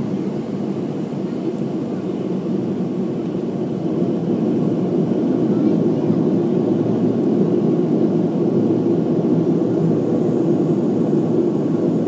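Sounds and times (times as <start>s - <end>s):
turboprop engine drone in cabin: 0.0s - 12.0s.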